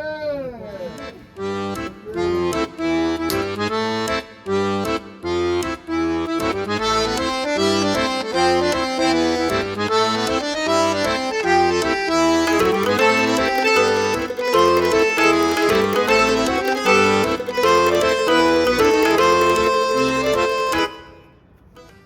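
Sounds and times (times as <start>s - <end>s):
accordion music: 0.8s - 22.0s.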